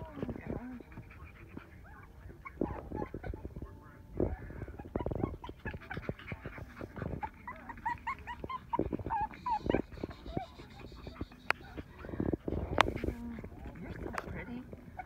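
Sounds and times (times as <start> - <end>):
puppies scuffling: 0.0 - 15.0
puppies yipping and squeaking: 0.0 - 15.0.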